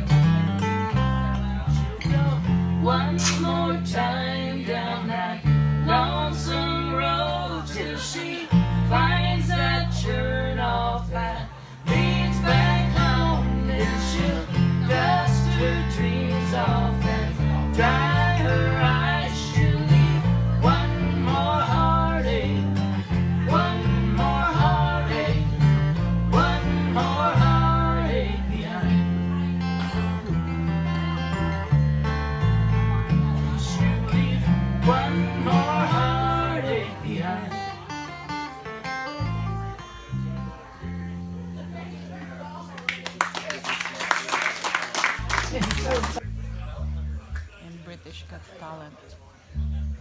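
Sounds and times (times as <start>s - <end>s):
steady bass line: 0.0s - 42.7s, 45.2s - 47.5s
strummed acoustic guitar: 0.0s - 42.7s.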